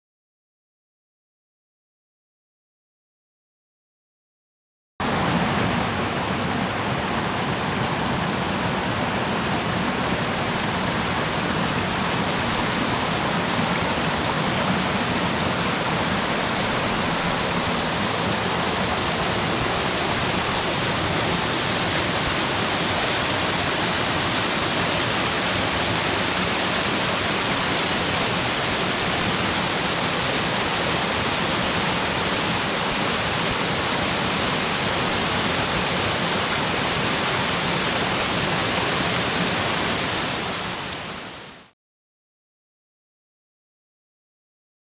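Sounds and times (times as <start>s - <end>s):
waterfall splashing: 5.0s - 41.7s.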